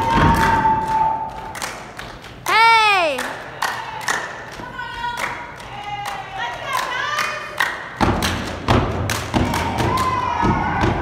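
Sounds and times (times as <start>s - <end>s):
stomping and clapping rhythm: 0.0s - 11.0s.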